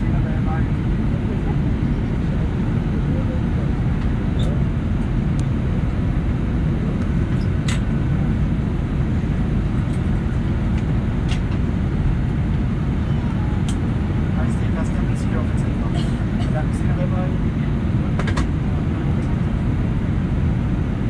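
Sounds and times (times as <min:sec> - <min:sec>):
aircraft cabin rumble taxiing: 0:00.0 - 0:21.0.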